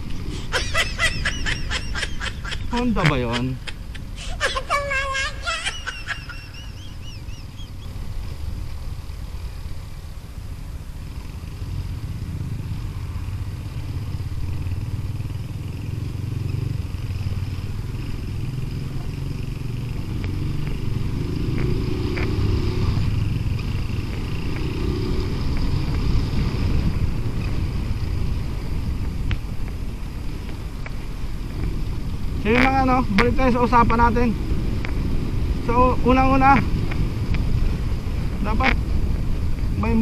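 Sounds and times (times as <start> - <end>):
motorcycle engine rumbling: 0.0 - 40.0.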